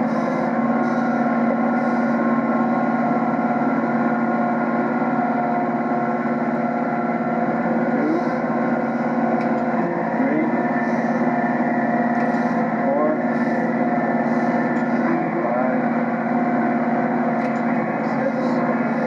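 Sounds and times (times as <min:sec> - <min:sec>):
drivetrain whine: 0:00.0 - 0:19.0
tractor engine under heavy load: 0:00.0 - 0:19.0.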